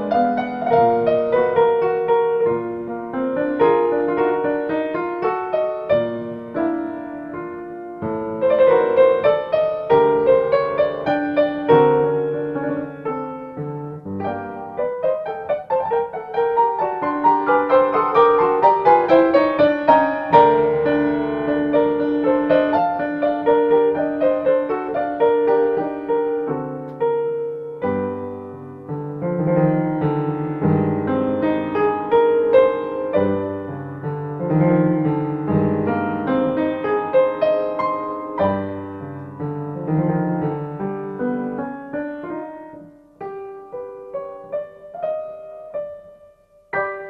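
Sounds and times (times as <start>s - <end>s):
solo piano music: 0.0s - 47.0s.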